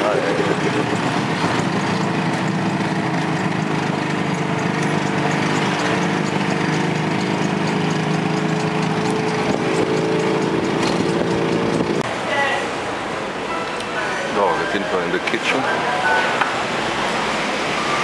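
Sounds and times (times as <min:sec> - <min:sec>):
small vehicle engine droning: 0:00.0 - 0:12.1, 0:13.5 - 0:18.0.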